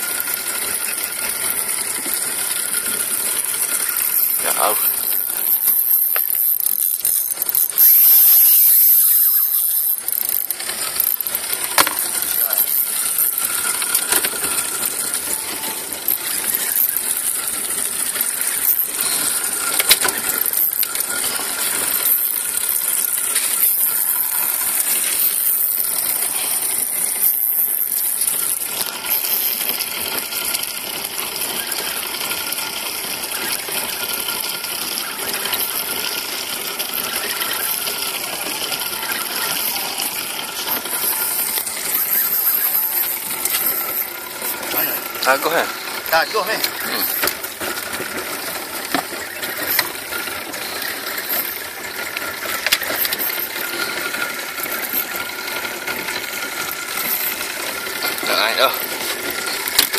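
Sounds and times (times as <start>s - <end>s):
fishing reel drag clicking: 0.0s - 32.2s, 32.8s - 59.9s.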